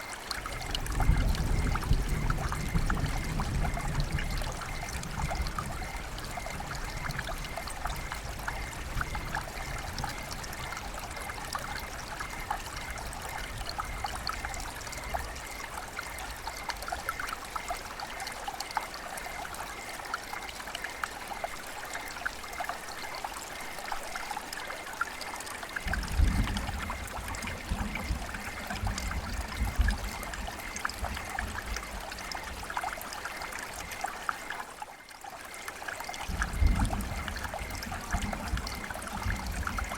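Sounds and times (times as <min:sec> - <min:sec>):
river water flowing: 0:00.0 - 0:02.0, 0:02.7 - 0:39.9.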